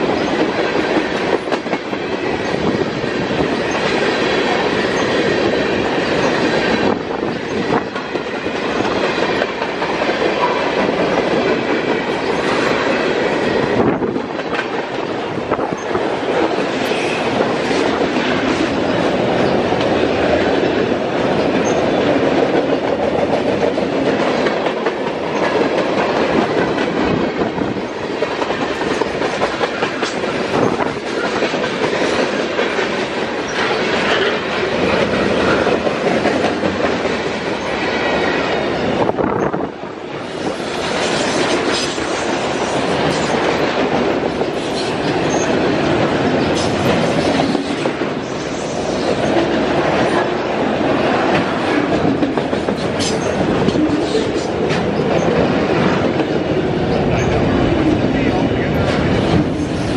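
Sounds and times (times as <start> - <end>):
steel wheels rushing on rail: 0.0 - 59.9
wheels clicking over rail joints: 0.0 - 59.9.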